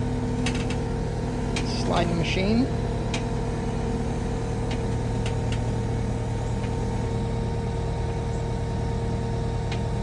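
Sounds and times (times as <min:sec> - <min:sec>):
skid steer engine humming: 0:00.0 - 0:10.0.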